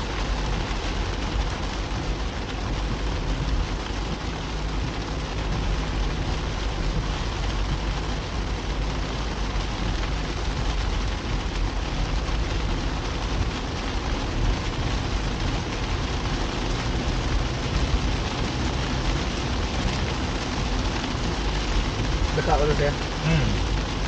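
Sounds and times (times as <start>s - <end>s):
car engine rumble: 0.0s - 24.0s
rain rushing: 0.0s - 24.0s
wet tyre noise: 0.0s - 24.0s.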